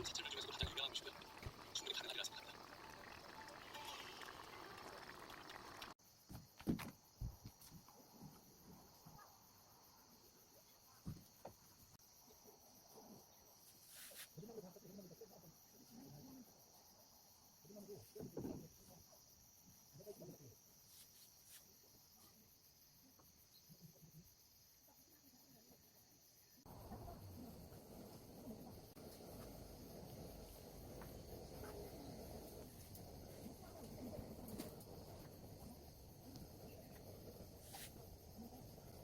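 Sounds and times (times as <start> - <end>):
insect chirring: 0.0 - 17.8, 19.0 - 39.0.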